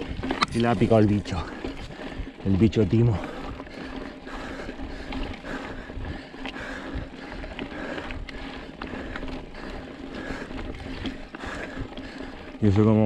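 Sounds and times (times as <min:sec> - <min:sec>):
bike clicks and rattles: 0:00.0 - 0:13.0
tyres rumbling on loose stones: 0:00.0 - 0:13.0.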